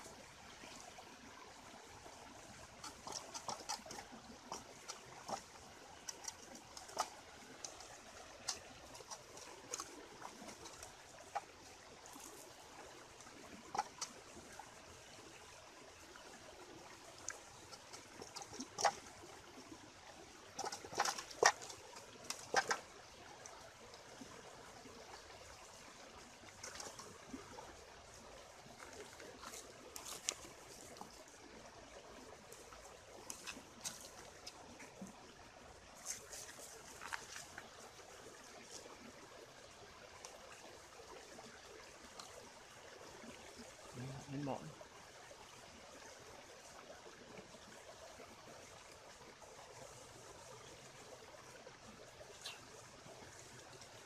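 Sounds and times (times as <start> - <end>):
faint water trickle: 0.0 - 54.0.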